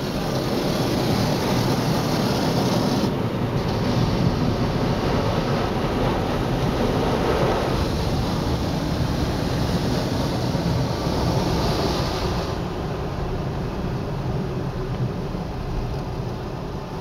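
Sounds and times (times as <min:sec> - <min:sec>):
car wash machinery rumbling: 0:00.0 - 0:17.0
water hissing over car: 0:00.0 - 0:17.0.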